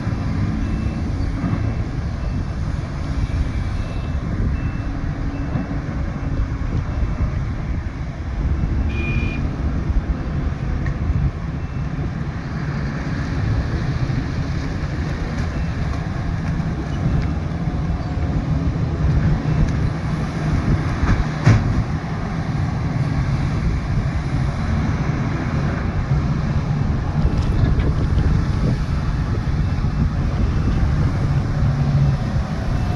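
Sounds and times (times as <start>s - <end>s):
heavy machinery engine rumble: 0.0s - 8.8s, 9.6s - 32.9s.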